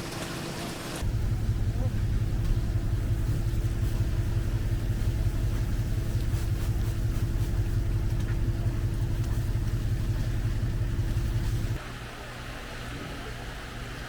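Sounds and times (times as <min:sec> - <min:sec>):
boat engine droning: 0:00.0 - 0:11.8.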